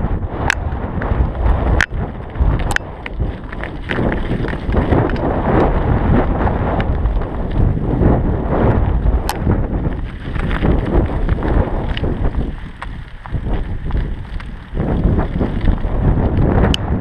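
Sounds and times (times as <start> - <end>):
bike clicks and rattles: 0.0 - 17.0
bike rolling over gravel: 0.0 - 17.0
wind buffeting microphone: 0.0 - 17.0.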